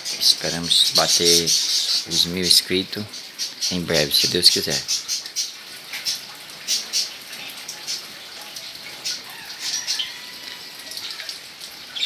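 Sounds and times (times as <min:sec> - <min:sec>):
drops pattering and dripping: 0:00.0 - 0:12.0
light rain falling: 0:00.0 - 0:12.0.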